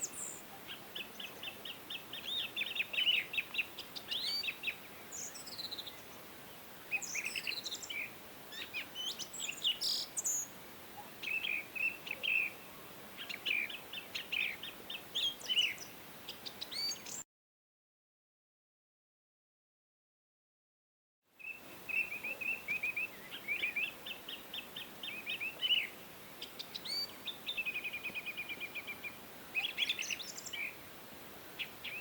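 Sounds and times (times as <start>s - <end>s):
faint steady hiss: 0.0s - 17.2s, 21.3s - 32.0s
songbirds chirping and singing: 0.0s - 17.2s, 21.4s - 30.8s.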